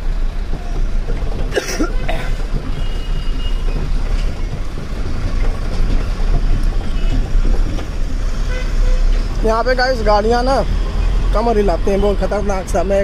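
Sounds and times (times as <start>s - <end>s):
diesel engine and road rumble: 0.0s - 13.0s.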